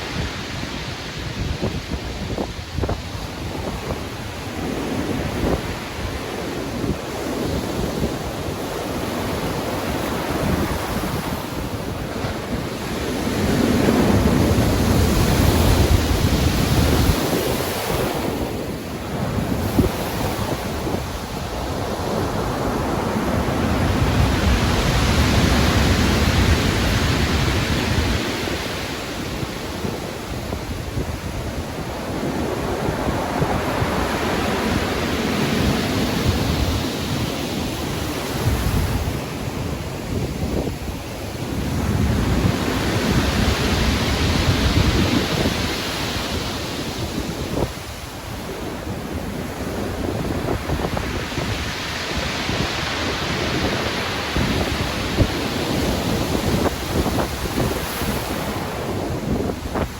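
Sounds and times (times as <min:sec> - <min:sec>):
ocean waves breaking: 0:00.0 - 0:59.9
wind: 0:00.0 - 0:59.9.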